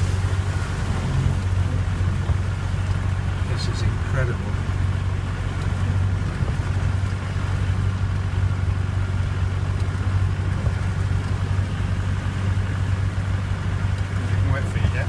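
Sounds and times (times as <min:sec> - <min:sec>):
car engine droning: 0:00.0 - 0:15.0
water washing against car: 0:00.0 - 0:15.0.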